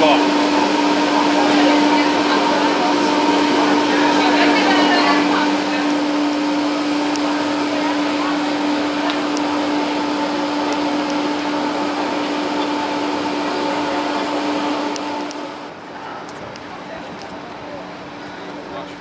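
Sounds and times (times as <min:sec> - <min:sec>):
machinery whirring drone: 0:00.0 - 0:19.0.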